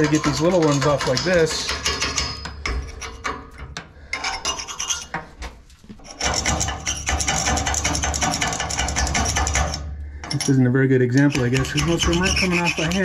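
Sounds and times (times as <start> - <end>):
chisel scraping steel: 0.0 - 13.0.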